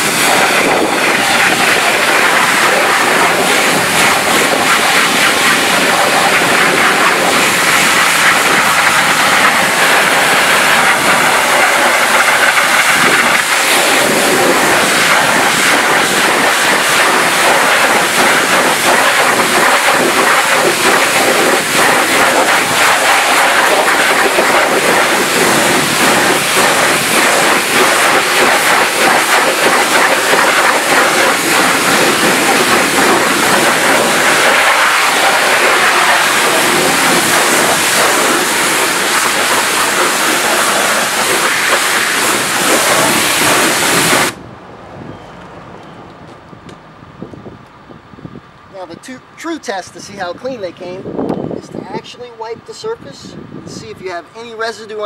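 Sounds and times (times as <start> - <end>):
pressure washer spraying: 0.0 - 44.4.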